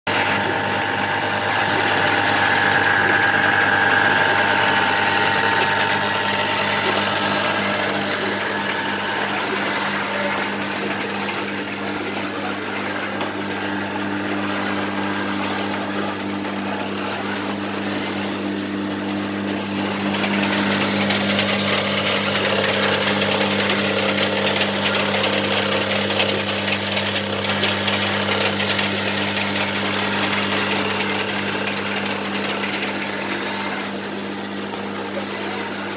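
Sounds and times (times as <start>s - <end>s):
printer motors and fans humming: 0.1s - 35.9s.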